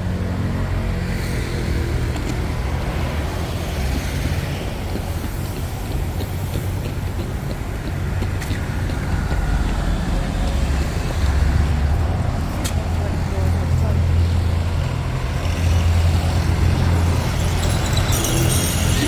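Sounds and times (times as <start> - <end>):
passing cars rumbling: 0.0 - 19.0.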